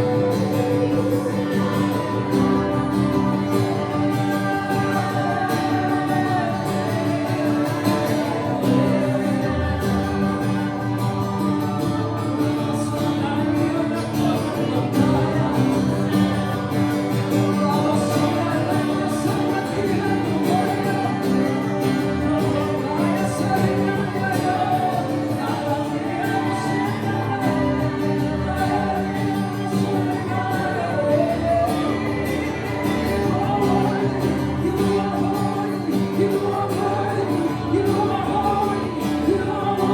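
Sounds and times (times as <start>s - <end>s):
band playing worship music: 0.0s - 39.9s
voices singing along: 0.0s - 39.9s.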